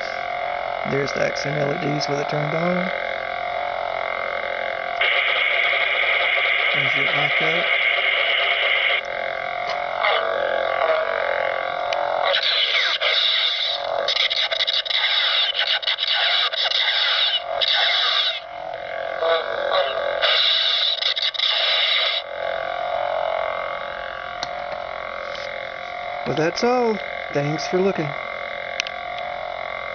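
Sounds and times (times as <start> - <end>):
electronic lightsaber hum: 0.0 - 29.9.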